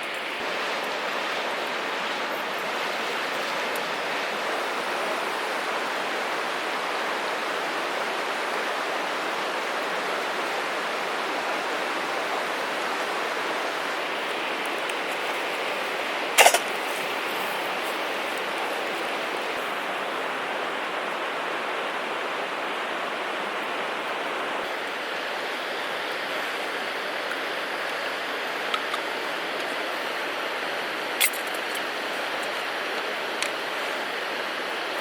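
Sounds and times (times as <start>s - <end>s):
steady rushing hiss: 0.0s - 35.0s.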